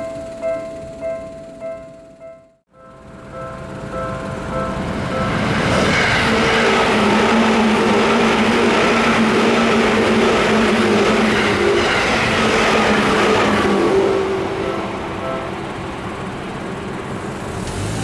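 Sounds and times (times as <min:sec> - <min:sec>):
level crossing warning bell: 0:00.0 - 0:17.3
electric train passing: 0:00.0 - 0:18.0.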